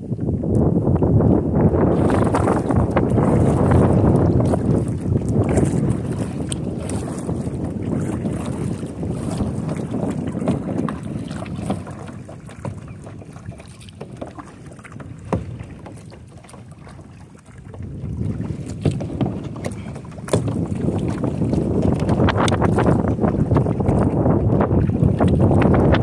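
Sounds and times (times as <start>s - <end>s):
paddle splashing in water: 0.0s - 26.0s
wind on microphone: 0.0s - 26.0s.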